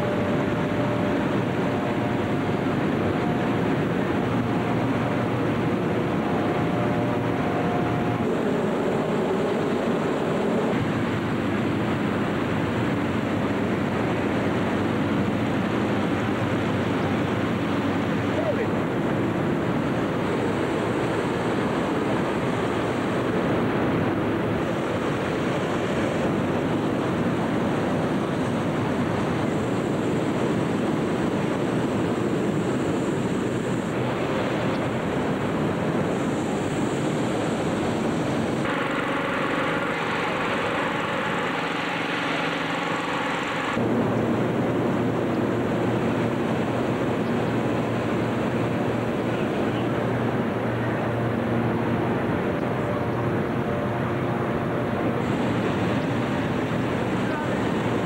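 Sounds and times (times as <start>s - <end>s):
fan engine humming: 0.0s - 58.0s
roar of inflator fans: 0.0s - 58.0s.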